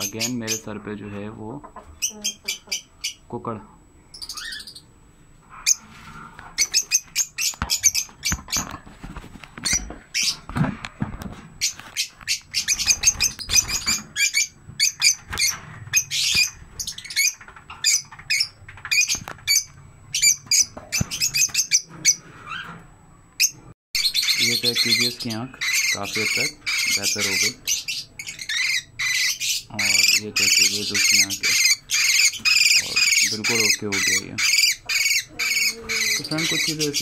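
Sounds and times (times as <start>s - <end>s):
lovebirds chirping: 0.0s - 3.4s, 4.0s - 4.9s, 5.5s - 8.7s, 9.6s - 10.5s, 11.6s - 37.0s.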